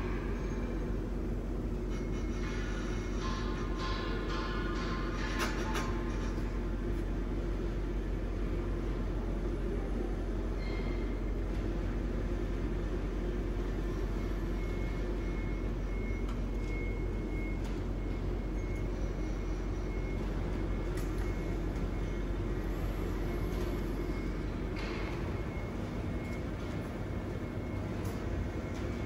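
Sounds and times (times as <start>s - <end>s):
machine hum and hiss: 0.0s - 29.0s.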